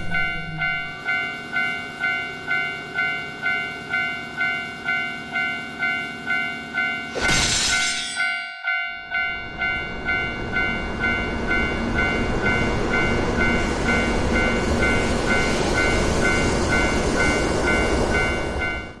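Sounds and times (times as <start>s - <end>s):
level-crossing alarm bell ringing: 0.0s - 19.0s.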